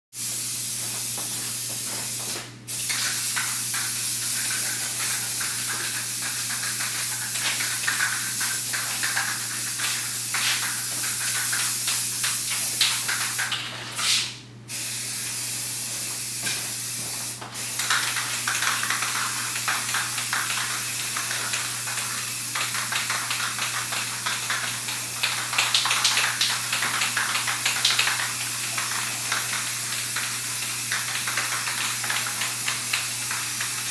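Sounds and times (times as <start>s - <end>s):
spray paint can hissing: 0.2s - 33.9s.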